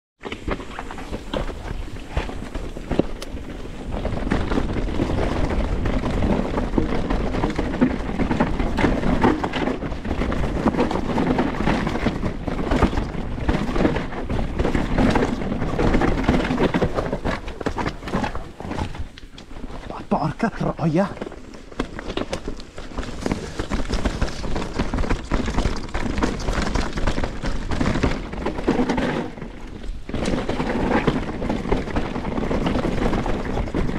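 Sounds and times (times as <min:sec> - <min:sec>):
bike knocks and rattles: 0:00.2 - 0:33.9
tyres rumbling over dirt and rock: 0:00.2 - 0:33.9.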